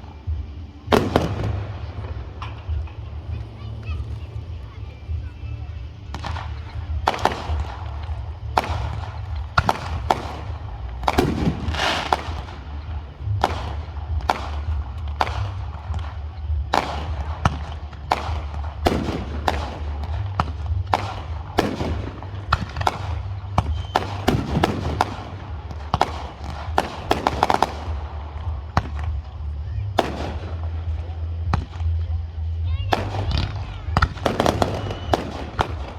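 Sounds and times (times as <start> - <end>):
fireworks bangs: 0.0 - 35.9
low rumble: 0.0 - 35.9.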